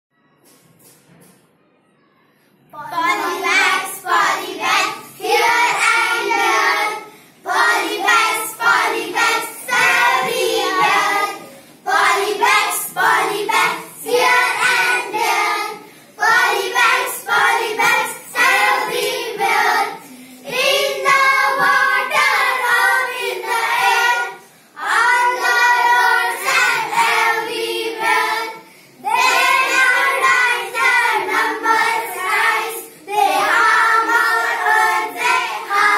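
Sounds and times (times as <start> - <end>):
children singing in unison: 2.8 - 35.9.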